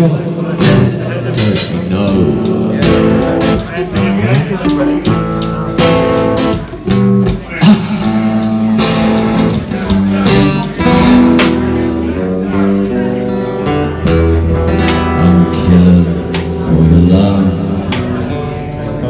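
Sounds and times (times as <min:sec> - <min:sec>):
acoustic guitar strumming: 0:00.0 - 0:19.0
drums: 0:00.0 - 0:19.0.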